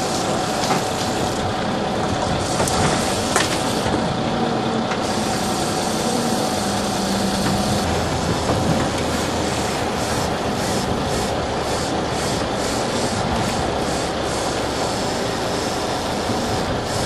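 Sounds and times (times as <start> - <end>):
boat engine running: 0.0 - 17.0
water wash: 0.0 - 17.0
wind noise: 1.0 - 14.1, 16.0 - 17.0.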